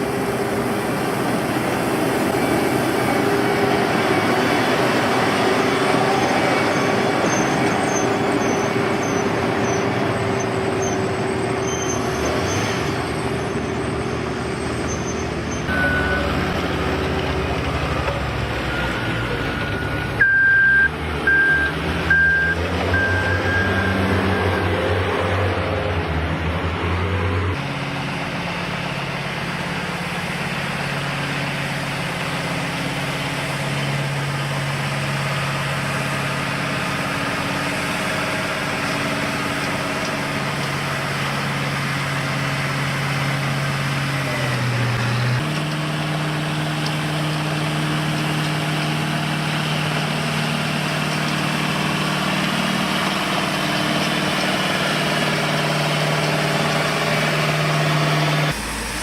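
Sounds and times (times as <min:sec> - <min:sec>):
paving machine engine running: 0:00.0 - 0:59.0.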